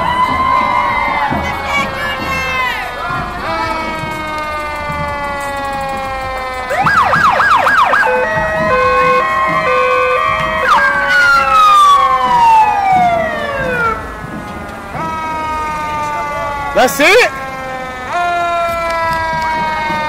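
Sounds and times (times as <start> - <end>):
emergency vehicle sirens: 0.0 - 20.0.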